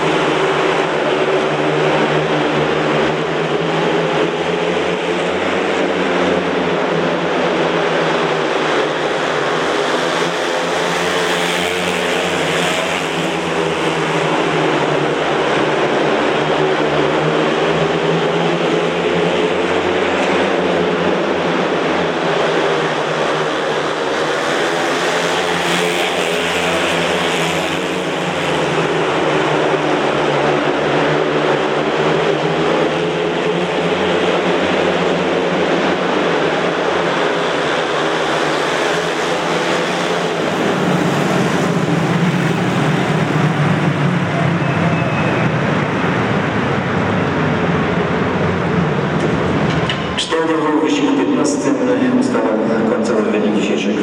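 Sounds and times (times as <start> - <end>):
motorcycle engines racing: 0.0 - 54.0.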